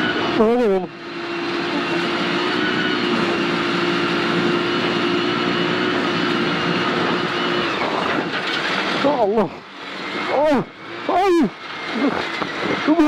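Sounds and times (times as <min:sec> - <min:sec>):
rally car engine at high revs: 0:00.0 - 0:13.0
tyres on gravel: 0:01.0 - 0:13.0.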